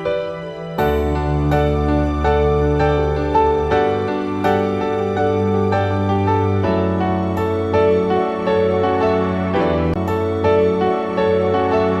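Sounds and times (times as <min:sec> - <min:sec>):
soft music with sustained chords: 0:00.0 - 0:12.0.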